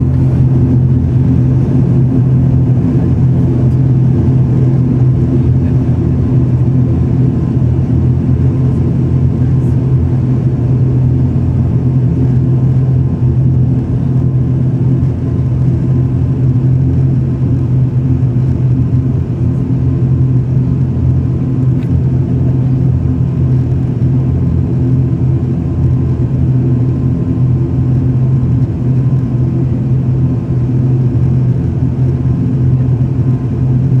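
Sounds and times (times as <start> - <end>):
turboprop engines droning: 0.0 - 34.0.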